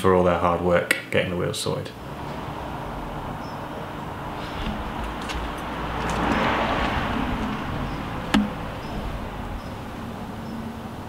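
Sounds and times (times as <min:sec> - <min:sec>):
vehicle passing by: 0:01.9 - 0:11.0.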